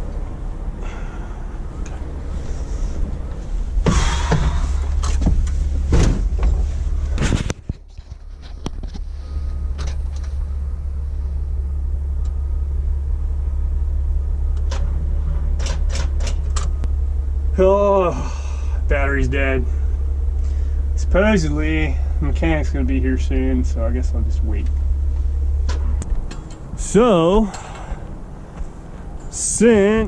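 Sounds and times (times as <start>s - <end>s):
diesel engine idling: 0.0s - 7.4s, 8.1s - 30.0s.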